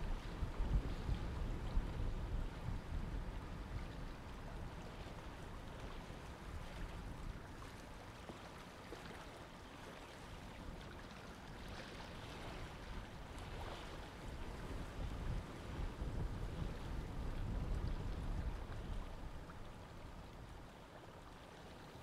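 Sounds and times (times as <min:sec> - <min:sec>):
wind rumbling on microphone: 0:00.0 - 0:21.6
faint moving water: 0:00.0 - 0:22.0.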